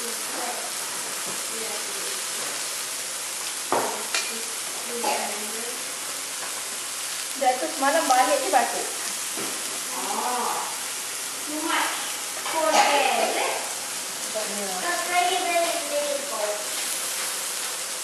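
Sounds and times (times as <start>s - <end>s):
meat sizzling on grill: 0.0s - 18.0s.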